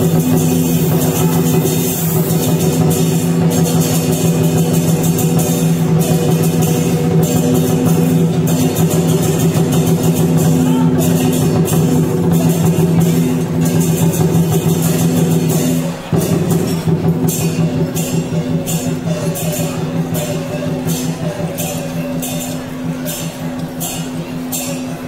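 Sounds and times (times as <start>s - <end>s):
loud music with drums: 0.0s - 25.0s.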